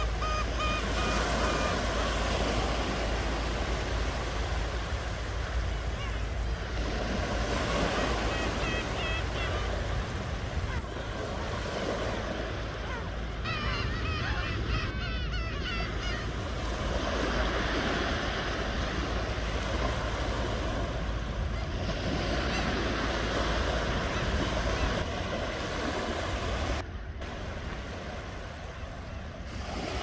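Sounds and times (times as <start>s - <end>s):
ocean surf washing on shore: 0.0s - 30.0s.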